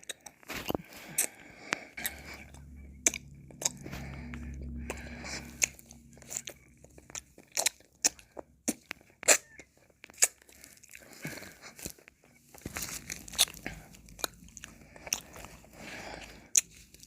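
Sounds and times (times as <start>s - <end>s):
mouth eating and licking ice cream: 0.0s - 17.0s.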